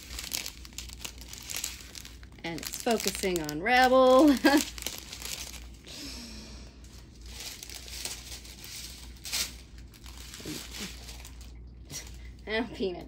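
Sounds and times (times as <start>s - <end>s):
plastic packaging crinkling: 0.0s - 5.9s, 6.8s - 12.4s.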